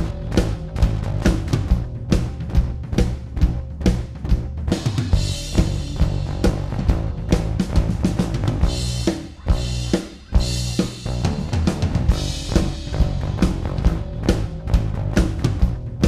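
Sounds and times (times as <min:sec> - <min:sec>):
bass notes: 0:00.0 - 0:16.0.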